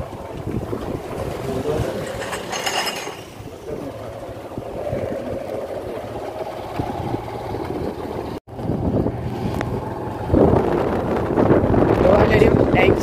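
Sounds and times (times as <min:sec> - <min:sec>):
wind rushing over microphone: 0:00.0 - 0:02.4, 0:03.3 - 0:13.0
vehicle and road noise: 0:00.0 - 0:13.0.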